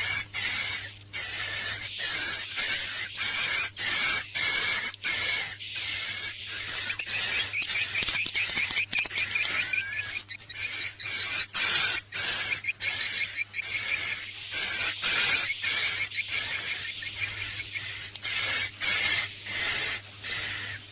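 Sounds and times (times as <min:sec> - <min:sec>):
swiftlet chirps twittering: 0:00.0 - 0:20.9.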